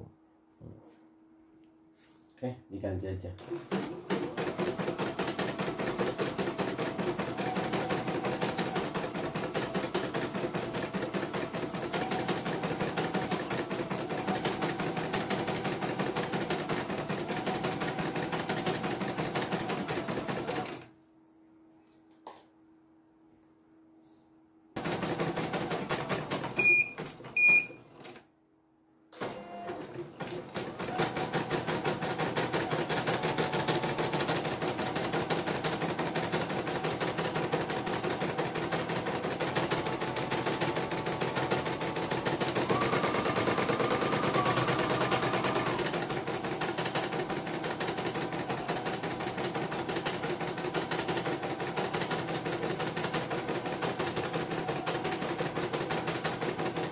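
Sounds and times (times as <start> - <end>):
embroidery machine stitching: 3.4 - 20.8, 24.8 - 28.2, 29.2 - 56.9.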